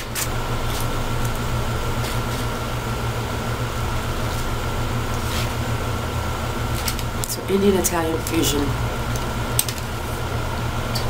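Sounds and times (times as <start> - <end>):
air conditioner humming: 0.0 - 11.0
thin steady whine: 0.0 - 11.0.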